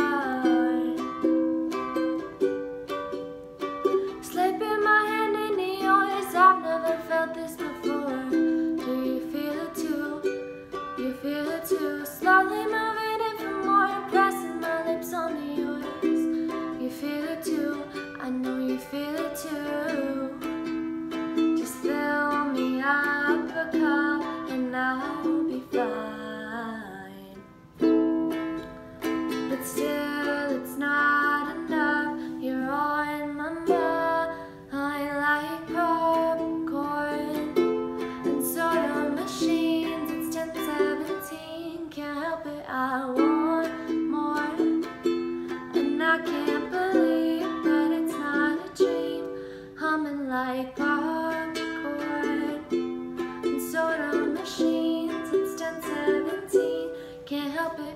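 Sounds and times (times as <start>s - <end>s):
woman singing: 0.0s - 2.4s, 3.9s - 27.6s, 29.3s - 57.9s
ukulele strumming chords: 0.0s - 57.9s.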